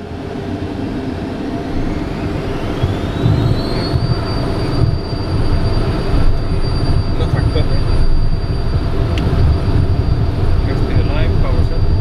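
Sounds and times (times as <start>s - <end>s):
jet engines spooling up: 0.0s - 12.0s.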